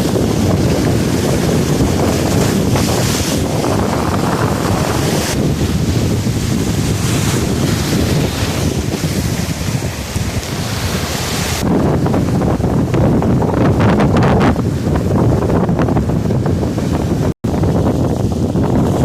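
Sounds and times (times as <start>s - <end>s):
sea washing: 0.0s - 19.0s
wind buffeting microphone: 0.0s - 19.0s.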